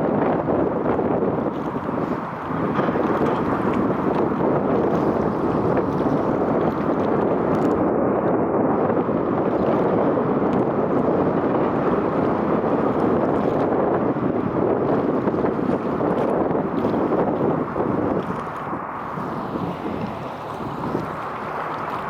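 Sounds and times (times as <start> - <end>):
wind rushing on microphone: 0.0 - 22.0.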